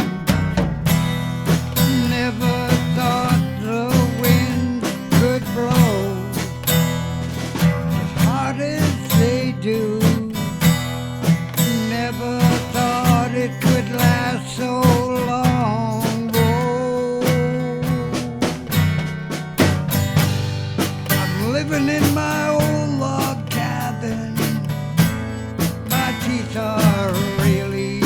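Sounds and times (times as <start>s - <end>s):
bass guitar: 0.0s - 28.0s
lead guitar with bent notes: 0.0s - 28.0s
steady drum beat: 0.0s - 28.0s.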